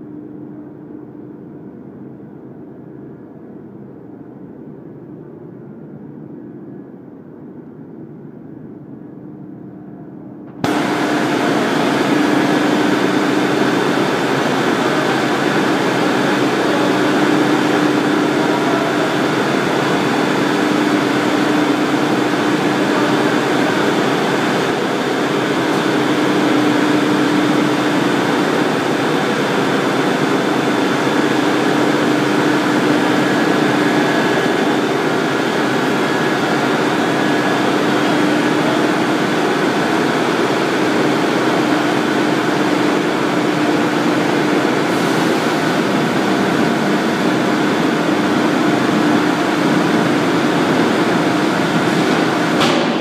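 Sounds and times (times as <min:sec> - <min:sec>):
rubber mixer machine drone: 0:10.5 - 0:53.0.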